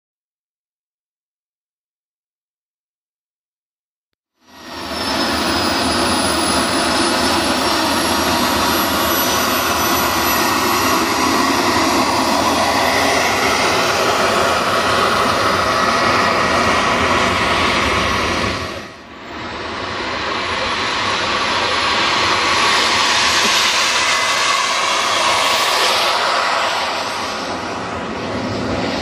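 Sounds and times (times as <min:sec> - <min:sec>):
model jet engines roaring: 0:04.3 - 0:29.0.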